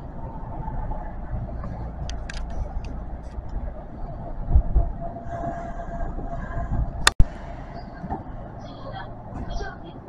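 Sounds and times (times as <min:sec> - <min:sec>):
low thumps: 0:00.0 - 0:08.6
train rumbling: 0:00.0 - 0:10.0.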